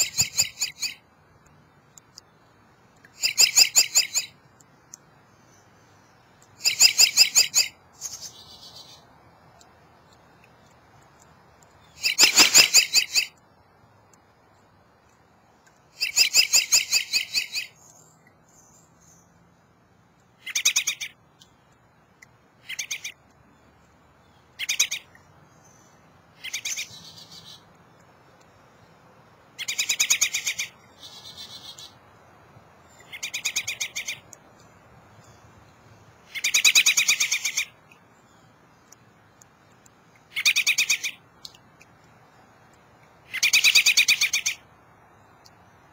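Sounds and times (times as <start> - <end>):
robin singing: 0.0 - 19.6, 20.2 - 45.9.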